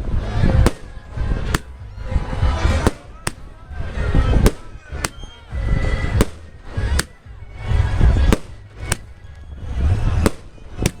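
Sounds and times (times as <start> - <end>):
firecrackers banging: 0.4 - 11.0.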